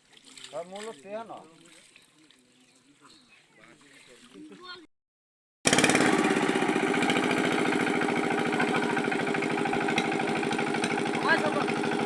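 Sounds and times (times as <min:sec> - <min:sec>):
water pump engine chugging: 0:00.0 - 0:04.8, 0:05.7 - 0:12.0.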